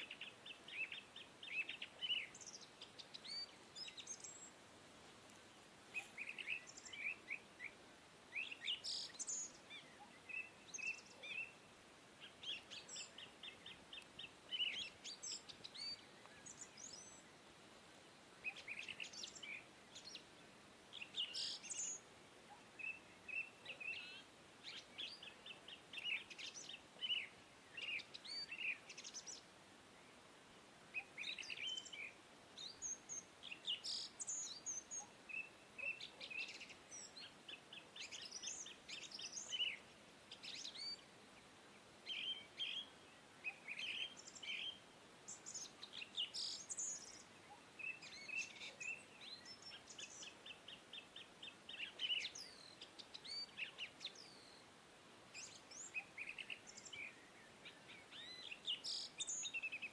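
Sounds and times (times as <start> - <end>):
faint background hiss: 0.0 - 59.9
small birds chirping: 0.0 - 59.9.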